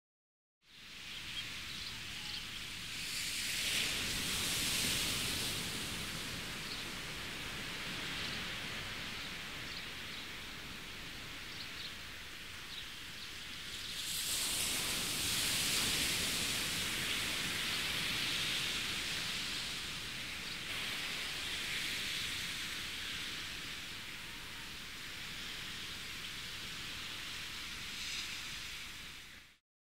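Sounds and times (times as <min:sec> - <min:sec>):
small waves washing on sand: 0:00.8 - 0:29.3.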